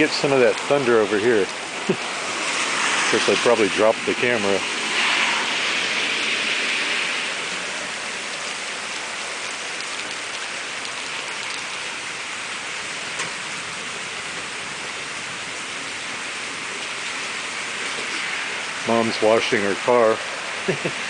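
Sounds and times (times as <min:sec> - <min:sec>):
steady rain pouring: 0:00.0 - 0:21.0.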